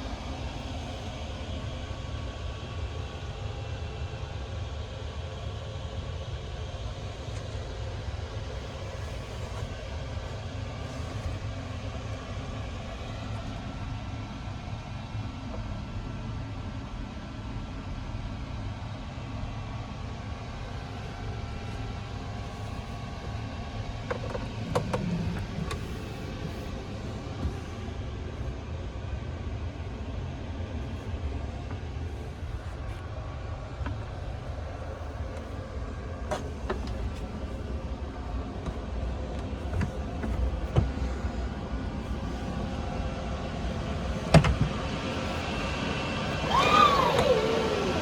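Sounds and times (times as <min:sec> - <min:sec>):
airliner cabin low rumble: 0:00.0 - 0:48.0.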